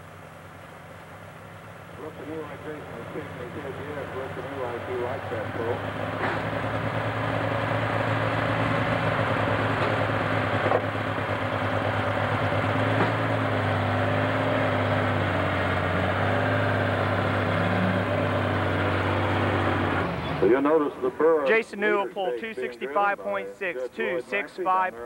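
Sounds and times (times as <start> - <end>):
tractor engine droning at high revs: 0.0 - 21.3.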